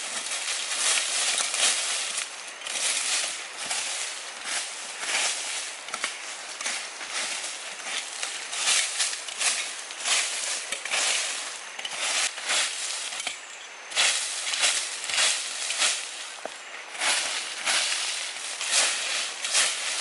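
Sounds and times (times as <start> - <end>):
dry leaves and twigs crackling: 0.0 - 20.0.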